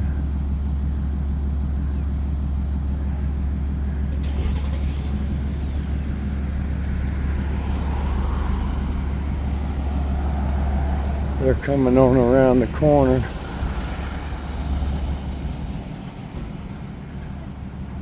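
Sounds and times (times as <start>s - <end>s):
vehicle engines idling: 0.0s - 18.0s.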